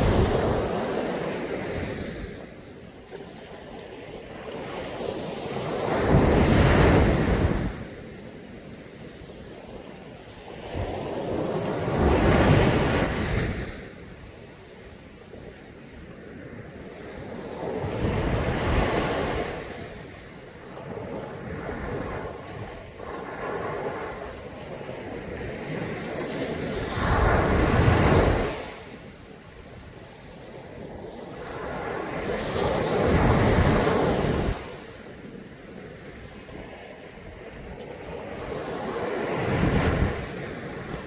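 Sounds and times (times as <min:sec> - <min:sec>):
waves breaking on beach: 0:00.0 - 0:41.0.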